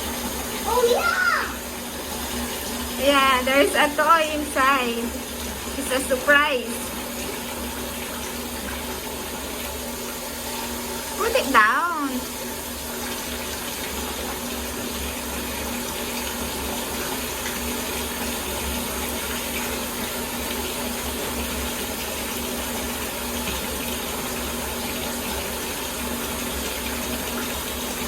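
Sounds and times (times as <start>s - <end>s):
water pouring into bathtub: 0.0s - 28.0s.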